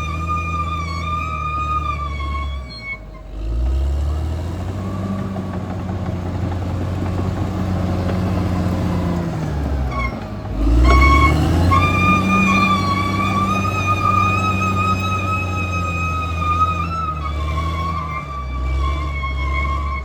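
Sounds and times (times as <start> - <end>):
bulldozer diesel engine running: 0.0 - 20.0.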